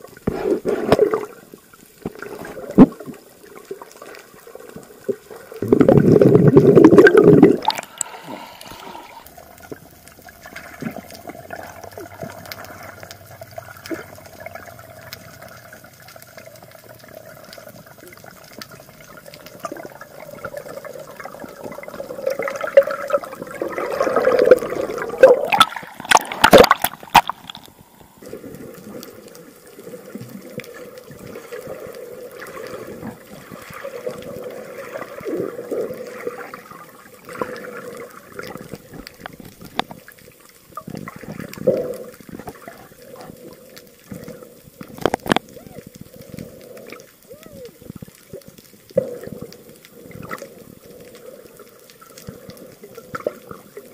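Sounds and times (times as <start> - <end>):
faint steady hiss: 0.0 - 53.9
muffled underwater sloshing: 0.0 - 53.9.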